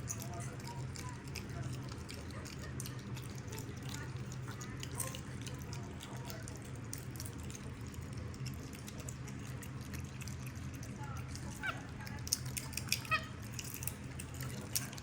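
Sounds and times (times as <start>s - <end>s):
monkeys crunching popcorn: 0.0s - 15.0s.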